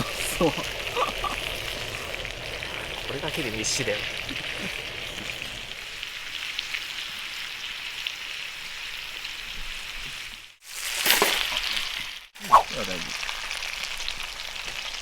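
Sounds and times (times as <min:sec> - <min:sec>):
pork sizzling in fat: 0:00.0 - 0:15.0.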